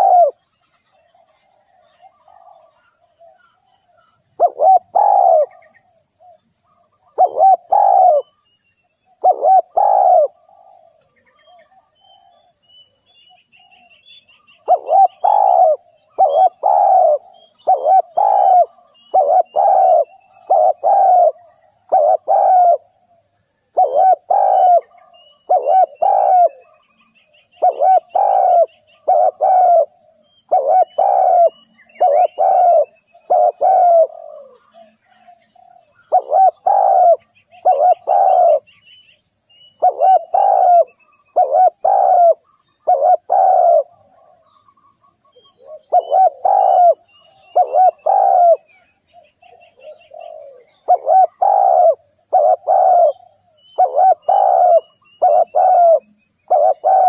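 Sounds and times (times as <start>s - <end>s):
dove cooing: 0.0s - 0.4s, 1.0s - 8.4s, 9.1s - 12.6s, 13.6s - 26.9s, 27.6s - 38.7s, 39.8s - 44.6s, 45.3s - 48.8s, 49.4s - 57.0s
small birds chirping: 0.0s - 57.0s.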